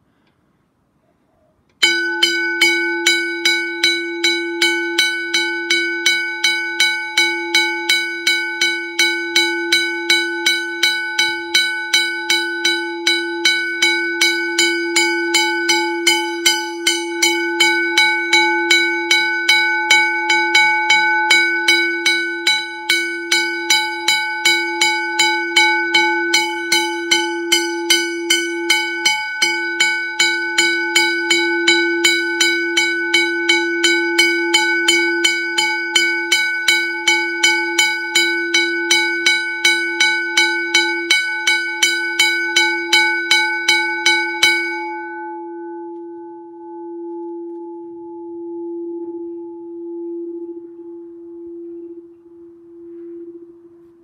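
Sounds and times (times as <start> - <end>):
gong struck and ringing: 1.8 - 54.0.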